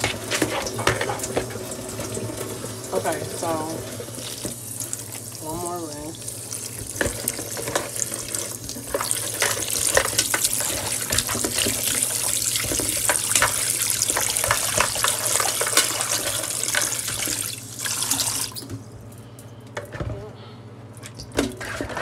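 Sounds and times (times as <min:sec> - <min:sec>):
faucet water splashing in sink: 0:00.0 - 0:18.8.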